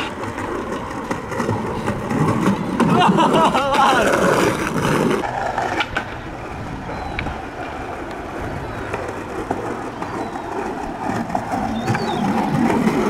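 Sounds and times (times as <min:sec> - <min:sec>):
skateboard clacks: 0:00.0 - 0:13.0
skateboard wheels rumbling: 0:00.0 - 0:13.0.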